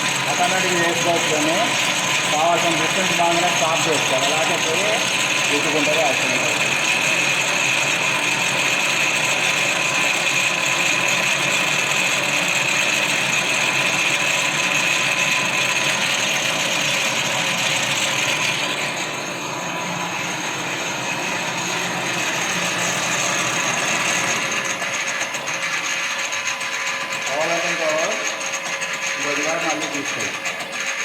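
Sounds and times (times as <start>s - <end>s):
lathe gear whir: 0.0s - 31.0s.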